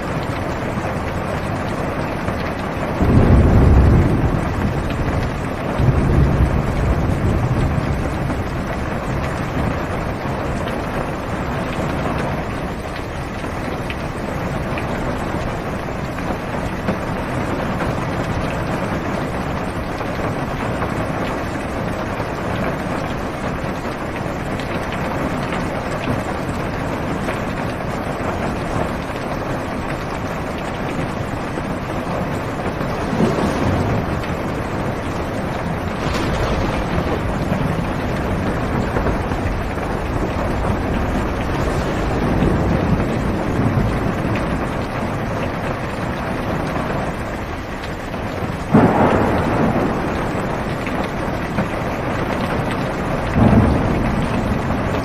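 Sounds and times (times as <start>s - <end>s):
heavy rain on car roof: 0.0s - 55.0s.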